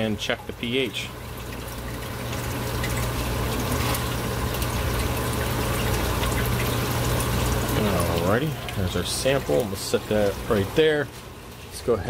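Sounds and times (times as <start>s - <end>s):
steady low hum: 0.0s - 12.0s
water trickling into plastic cup: 0.2s - 11.8s.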